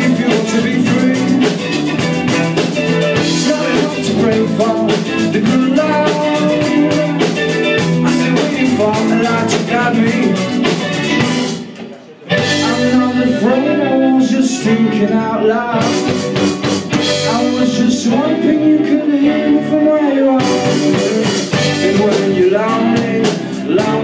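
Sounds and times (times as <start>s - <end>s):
man singing lead vocal: 0.0s - 11.2s, 12.3s - 24.0s
live rock band playing: 0.0s - 24.0s.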